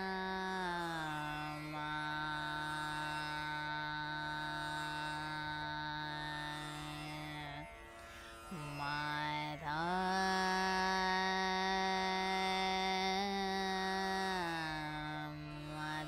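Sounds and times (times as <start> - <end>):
tanpura drone: 0.0 - 16.0.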